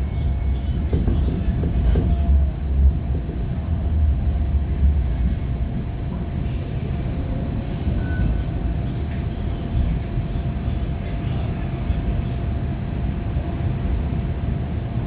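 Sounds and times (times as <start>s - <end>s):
light rail car rumbling: 0.0s - 15.0s.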